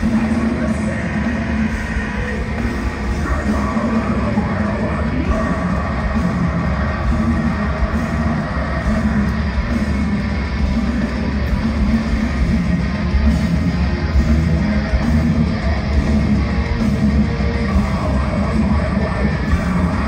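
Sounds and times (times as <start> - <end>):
bass guitar: 0.0 - 20.0
distorted electric guitars: 0.0 - 20.0
drums: 0.0 - 20.0.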